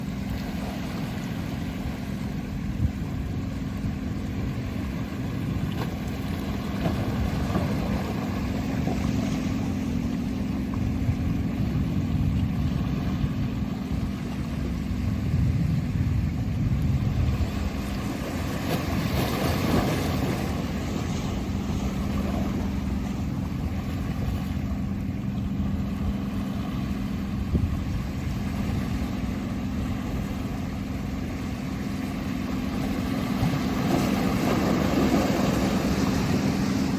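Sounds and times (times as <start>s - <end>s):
motorboat engine humming: 0.0s - 36.9s
waves washing: 0.0s - 36.9s.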